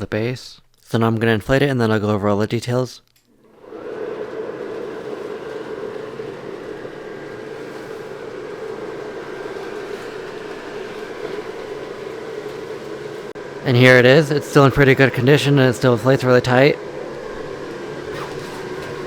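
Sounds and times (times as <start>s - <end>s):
electric blower fan running: 3.3s - 19.0s.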